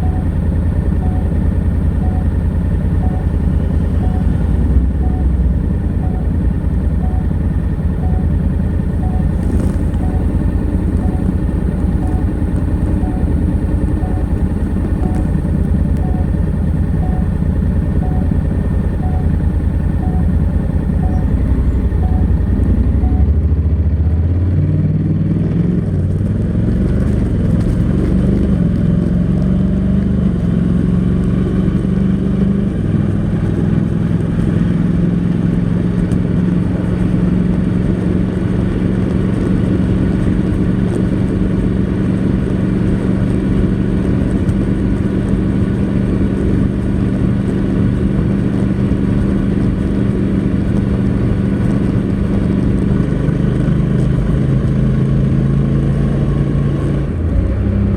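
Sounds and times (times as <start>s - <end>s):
motorcycle engine under way: 0.0s - 57.9s.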